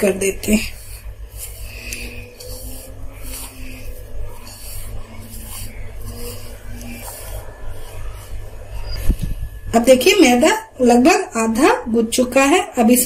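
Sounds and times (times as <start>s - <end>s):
hand rubbing dough in bowl: 0.0s - 10.6s
steady low hum: 0.0s - 13.0s.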